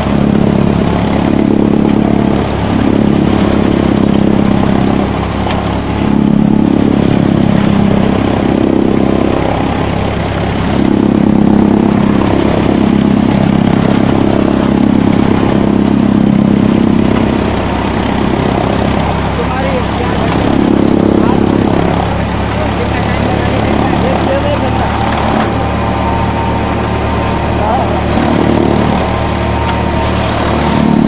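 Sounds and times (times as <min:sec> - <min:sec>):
thresher droning: 0:00.0 - 0:31.0.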